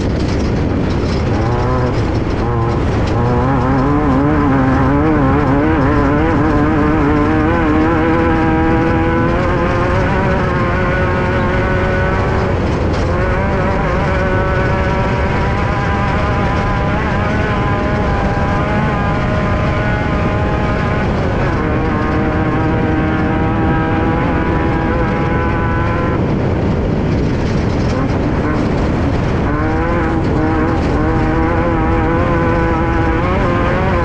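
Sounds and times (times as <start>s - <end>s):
heavy car noise: 0.0s - 34.0s
race car engine running hard: 0.0s - 34.0s.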